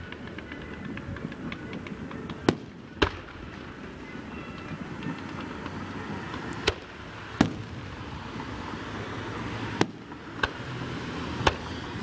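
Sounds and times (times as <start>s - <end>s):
firework shells bursting: 0.0s - 8.6s, 9.7s - 10.7s
steady background noise: 0.0s - 12.0s.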